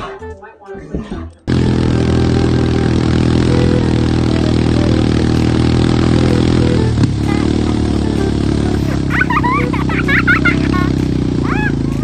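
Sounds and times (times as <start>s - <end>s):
vehicle engine running: 1.5s - 12.0s.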